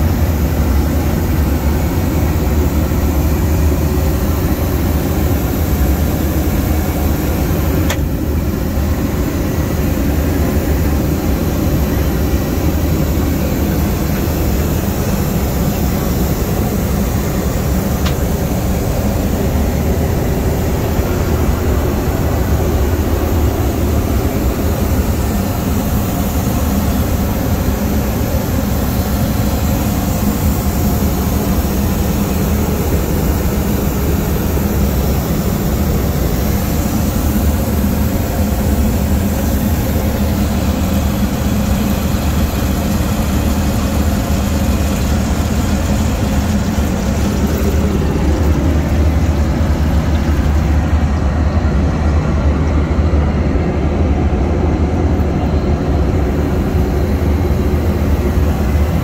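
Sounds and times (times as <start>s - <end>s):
cabin air hiss: 0.0s - 52.6s
airliner engine drone: 0.0s - 59.0s.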